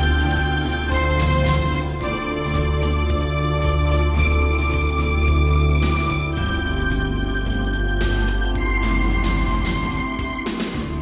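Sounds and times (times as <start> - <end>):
organ chords: 0.0 - 11.0.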